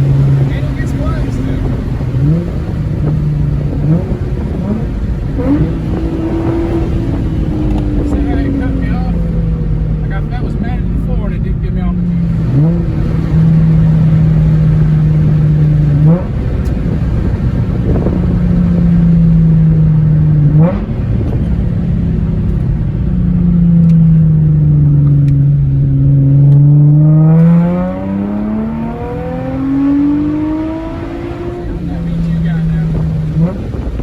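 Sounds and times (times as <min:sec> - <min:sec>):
car engine revving loudly: 0:00.0 - 0:34.0.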